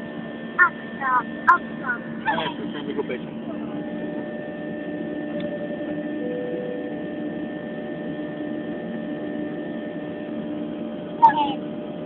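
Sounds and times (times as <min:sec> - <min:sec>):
aircraft engine and airflow drone: 0:00.0 - 0:12.0.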